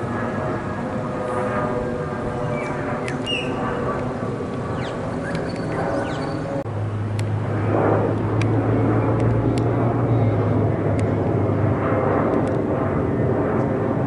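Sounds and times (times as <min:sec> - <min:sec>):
jet engine roar overhead: 0:00.0 - 0:14.0
low hum: 0:00.0 - 0:14.0.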